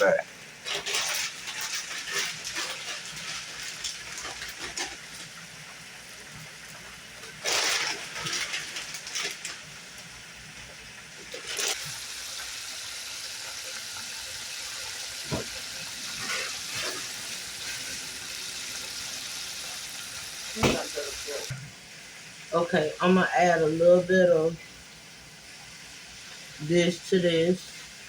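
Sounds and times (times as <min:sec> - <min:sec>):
steak sizzling in a pan: 0:00.3 - 0:28.0.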